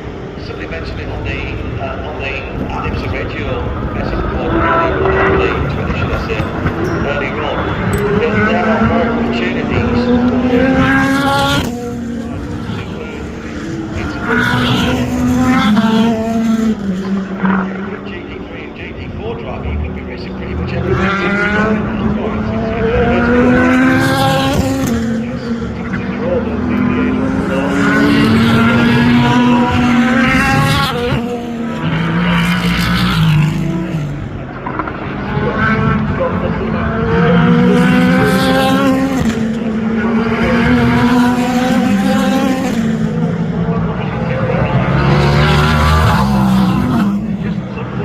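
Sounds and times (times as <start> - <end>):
race car engines at high revs: 0.0 - 48.0.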